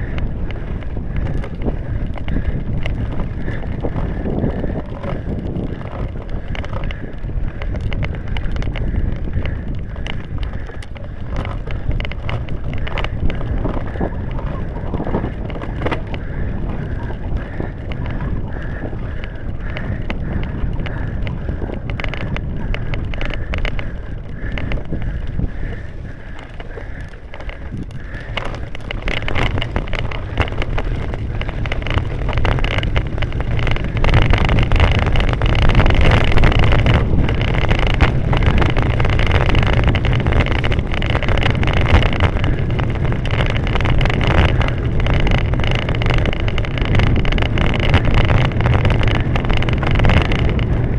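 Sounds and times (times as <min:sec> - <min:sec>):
bike rattling and knocking: 0:00.0 - 0:50.9
wind buffeting microphone: 0:00.0 - 0:50.9.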